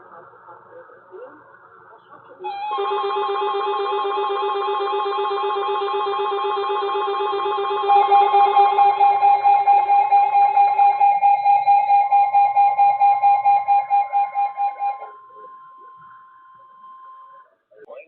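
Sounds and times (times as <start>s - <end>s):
electronic emergency alert tone: 2.5s - 17.5s.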